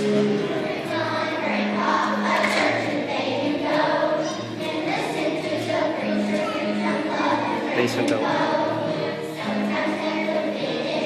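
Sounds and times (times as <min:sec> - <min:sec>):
choir singing: 0:00.0 - 0:11.0.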